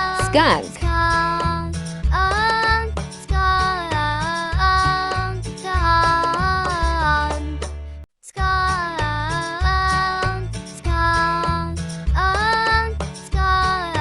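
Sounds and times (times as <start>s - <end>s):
children's song sung melody: 0.0s - 14.0s.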